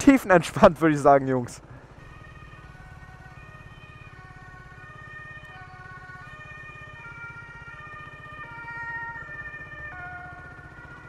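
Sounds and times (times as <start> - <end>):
motorcycle engine idling: 1.6 - 11.0.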